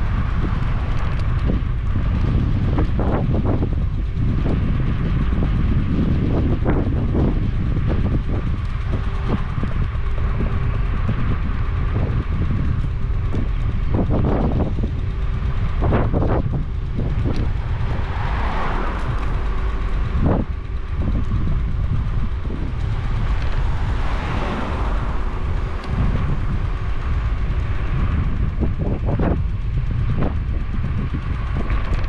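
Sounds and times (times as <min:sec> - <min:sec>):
road noise: 0:00.0 - 0:32.0
wind rumble on microphone: 0:00.0 - 0:32.0.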